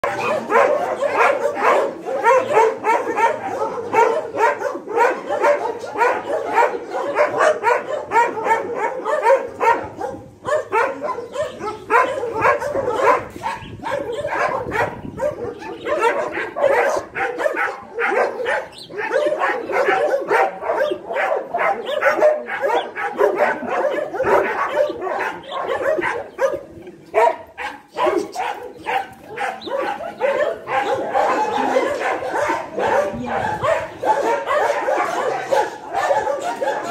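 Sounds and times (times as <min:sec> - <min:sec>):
dogs barking excitedly: 0:00.0 - 0:36.9.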